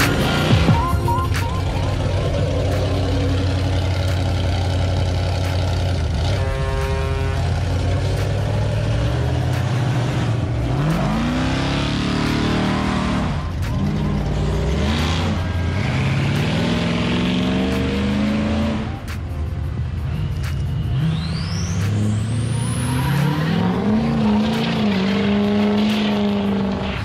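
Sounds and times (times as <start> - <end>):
vehicle engine revving: 0.0 - 27.0.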